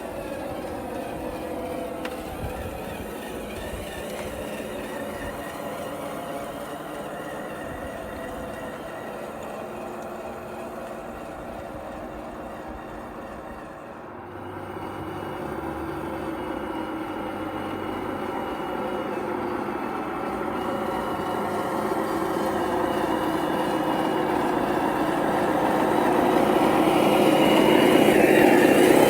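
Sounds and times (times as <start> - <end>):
toy bulldozer mechanical whir: 0.0 - 29.0.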